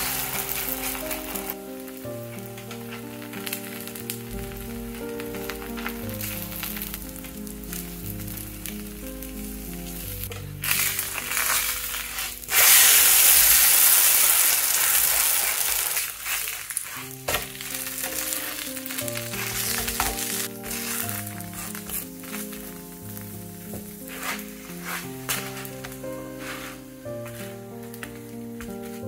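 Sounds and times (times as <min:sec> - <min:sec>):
butter and oil sizzling in skillet: 0:00.0 - 0:28.1.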